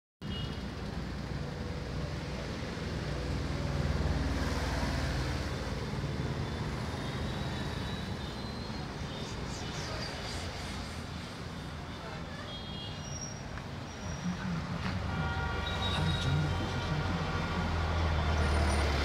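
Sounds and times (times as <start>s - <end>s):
passing traffic rumble: 0.6s - 19.0s.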